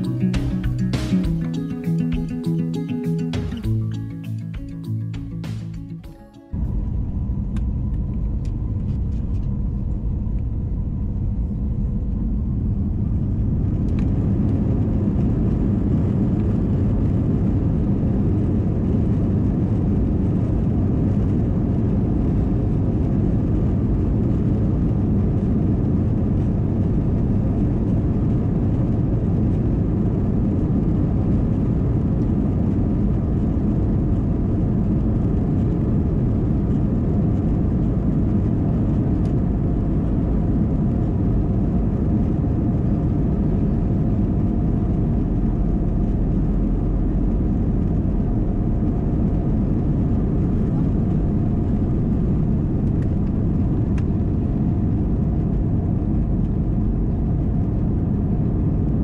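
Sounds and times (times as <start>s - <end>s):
aircraft cabin rumble: 0.0s - 59.0s.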